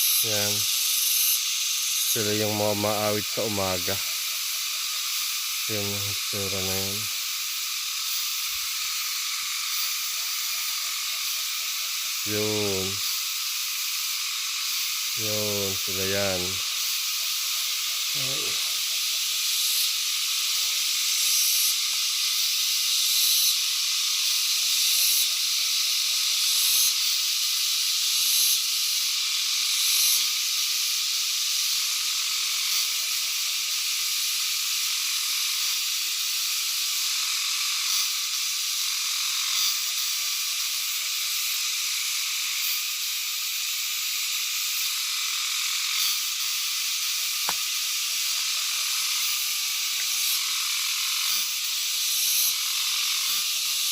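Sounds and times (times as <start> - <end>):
insects calling: 0.0 - 53.9.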